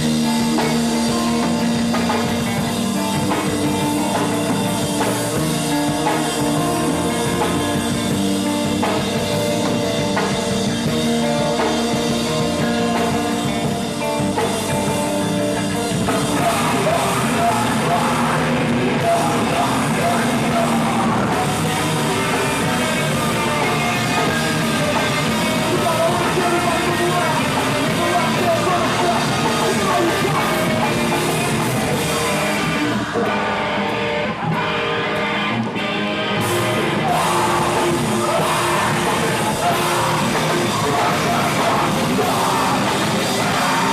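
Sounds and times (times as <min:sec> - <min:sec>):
live rock band playing: 0:00.0 - 0:43.9
person singing: 0:00.0 - 0:43.9.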